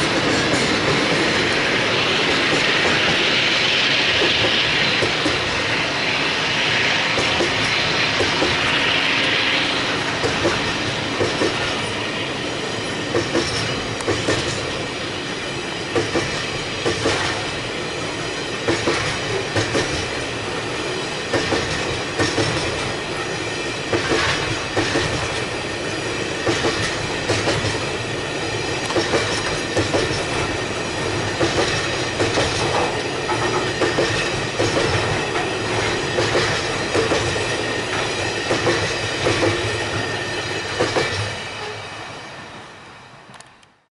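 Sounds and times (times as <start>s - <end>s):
train wheels clacking over rail joints: 0.0s - 6.4s, 7.0s - 41.8s
freight train rumble: 0.0s - 43.9s.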